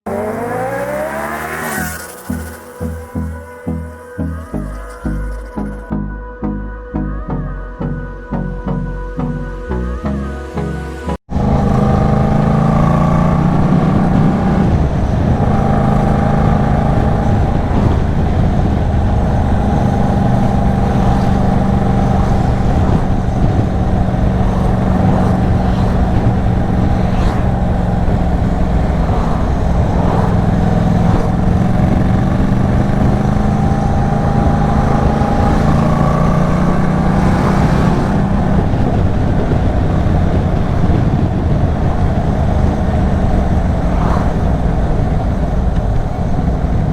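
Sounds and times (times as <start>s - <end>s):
motorcycle engine revving: 0.0s - 5.9s, 11.3s - 46.9s
wind and road noise: 0.0s - 5.9s, 11.3s - 46.9s.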